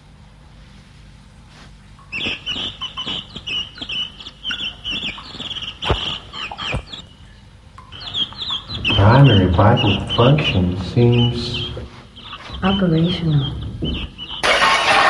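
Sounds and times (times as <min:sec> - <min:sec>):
bird-like clucking and chirping: 0:02.0 - 0:15.0.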